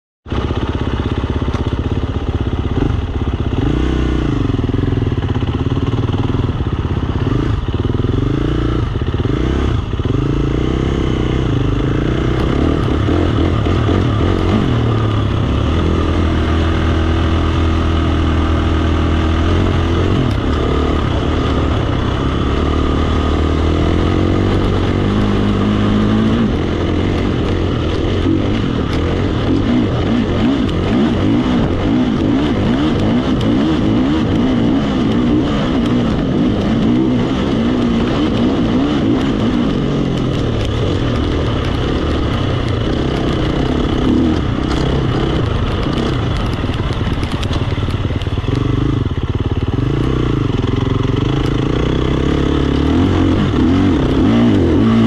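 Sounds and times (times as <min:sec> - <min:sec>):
dirt bike engine revving: 0:00.3 - 0:55.0.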